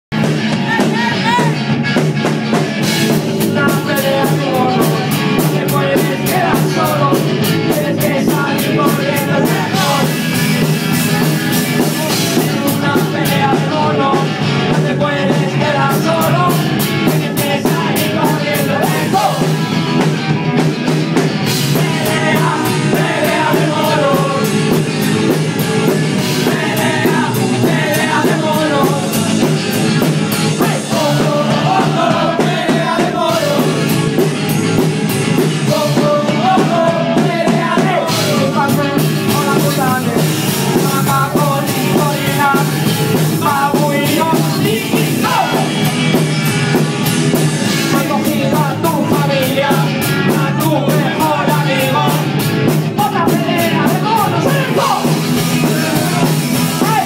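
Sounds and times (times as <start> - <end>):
drum kit: 0.1 - 57.0
electric guitar: 0.1 - 57.0.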